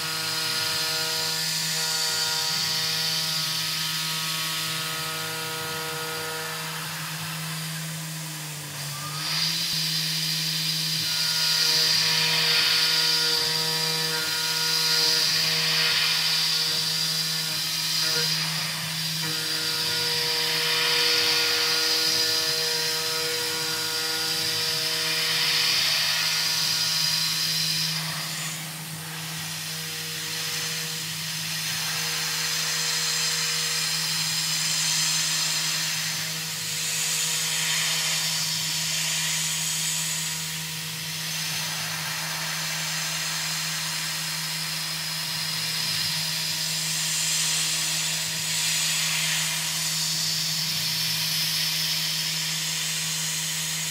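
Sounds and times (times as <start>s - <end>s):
end mill cutting metal hiss: 0.0s - 53.9s.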